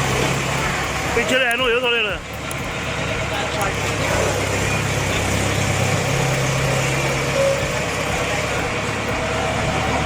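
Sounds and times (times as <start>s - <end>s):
faint voices: 0.0s - 10.0s
heavy vehicle engine revving: 0.0s - 10.0s.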